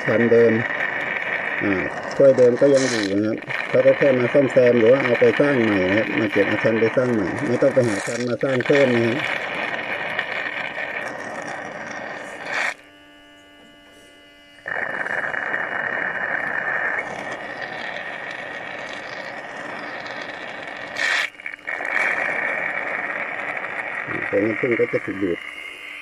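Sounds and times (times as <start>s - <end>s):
gurgle: 0.0s - 12.8s, 14.7s - 24.7s
suction hiss through tube: 0.0s - 12.8s, 13.9s - 26.0s
faint steady hum: 0.0s - 26.0s.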